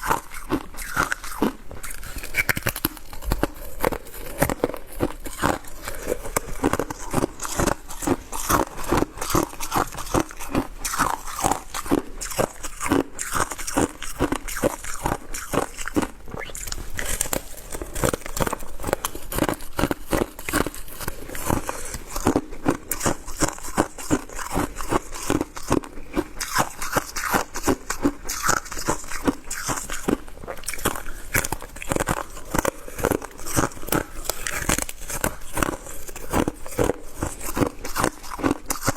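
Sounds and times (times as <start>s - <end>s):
person crunching ice: 0.0s - 38.9s.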